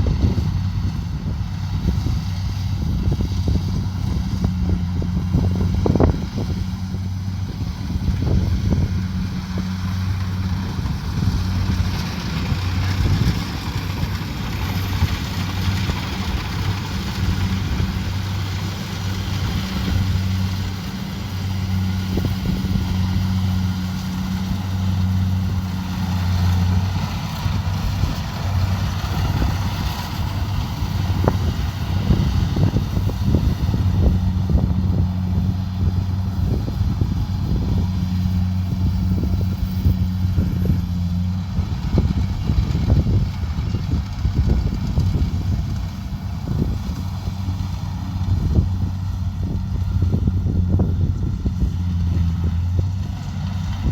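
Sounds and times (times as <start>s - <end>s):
combine harvester diesel engine: 0.0s - 53.9s.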